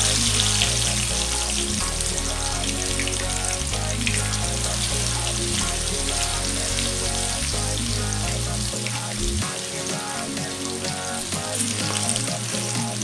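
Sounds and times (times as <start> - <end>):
background music with bass line: 0.0 - 13.0.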